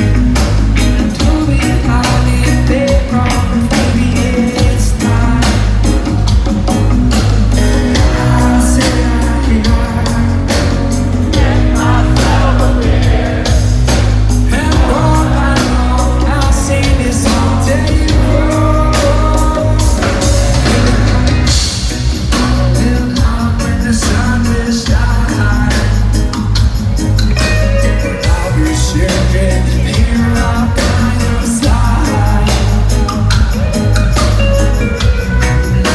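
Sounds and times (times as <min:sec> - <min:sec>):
heavy bass line: 0:00.0 - 0:35.9
live reggae band playing: 0:00.0 - 0:35.9
person singing lead vocal: 0:00.8 - 0:06.1, 0:07.6 - 0:35.9.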